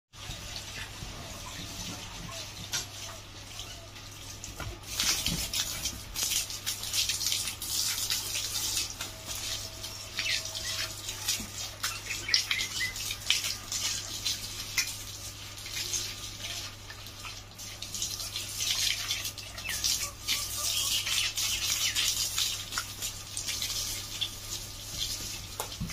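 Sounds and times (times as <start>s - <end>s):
hose water splashing on bicycle: 0.1s - 25.9s.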